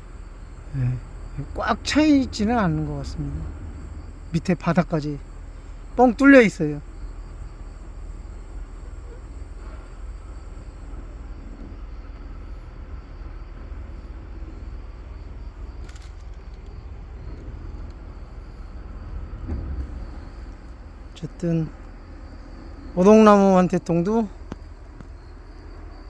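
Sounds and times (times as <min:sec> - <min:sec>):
faint hiss: 0:00.0 - 0:26.0
low outdoor rumble: 0:00.0 - 0:26.0.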